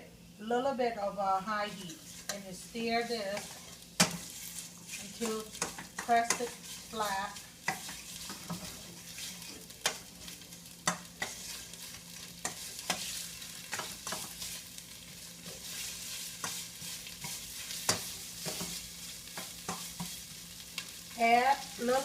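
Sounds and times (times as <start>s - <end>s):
utensil scraping a pan: 1.6s - 20.4s
paste sizzling in oil: 1.6s - 22.0s.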